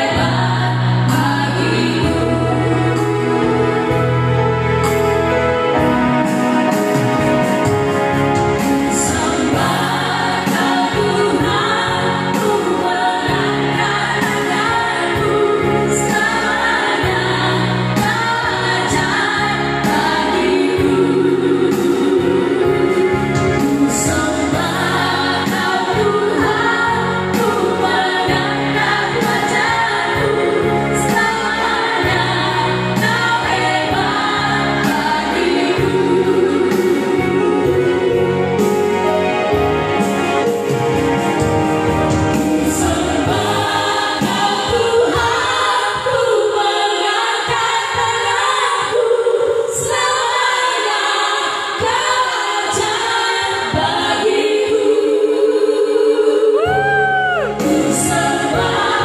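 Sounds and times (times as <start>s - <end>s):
women singing in harmony: 0.0s - 8.0s, 8.6s - 40.5s, 41.8s - 59.0s
electronic keyboard: 0.0s - 48.4s.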